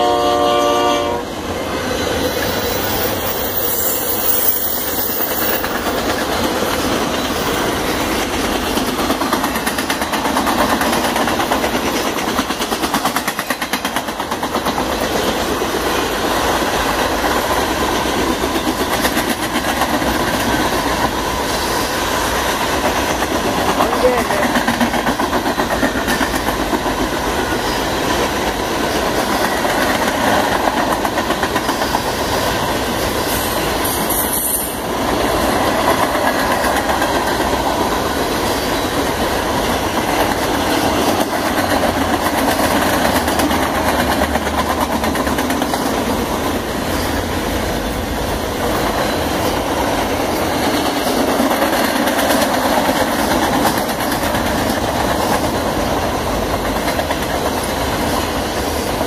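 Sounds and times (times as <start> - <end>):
train wheels clattering on rails: 0.0 - 59.0.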